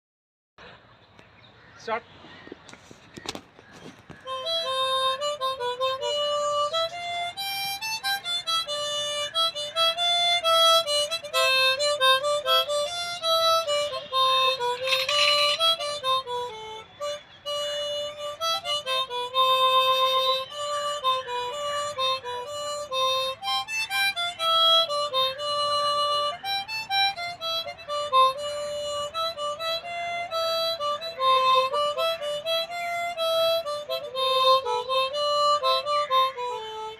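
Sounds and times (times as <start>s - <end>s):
harmonica melody: 3.8s - 36.9s.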